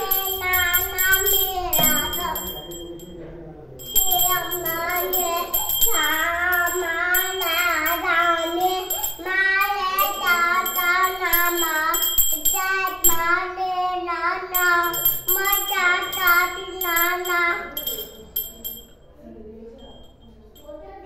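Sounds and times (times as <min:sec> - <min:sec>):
child singing a chant: 0:00.0 - 0:02.7, 0:03.9 - 0:18.1
small bell ringing: 0:00.0 - 0:21.0.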